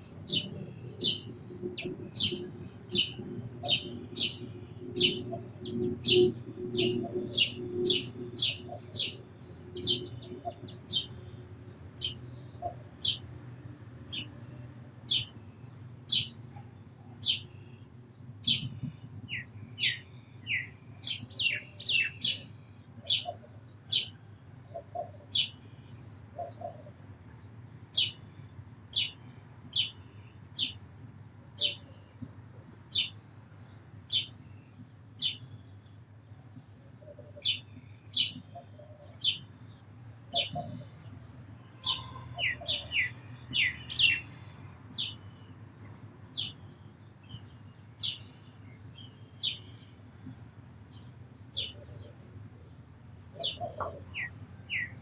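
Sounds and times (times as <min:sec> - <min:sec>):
sparrow chirping: 0:00.0 - 0:55.0.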